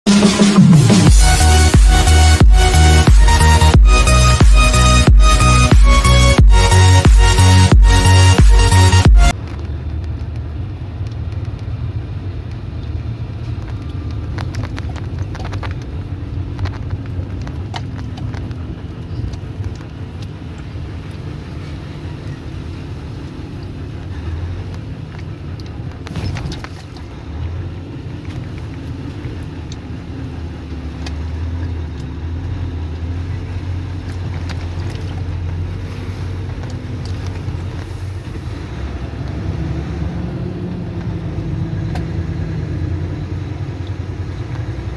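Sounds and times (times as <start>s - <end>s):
vehicle engine rumble: 0.0s - 44.9s.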